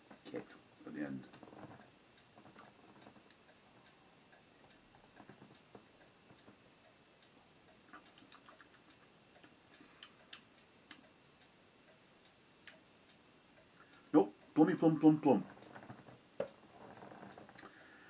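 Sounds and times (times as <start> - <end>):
faint steady hiss: 0.0 - 18.0
faint clicks: 1.1 - 14.6, 15.3 - 18.0.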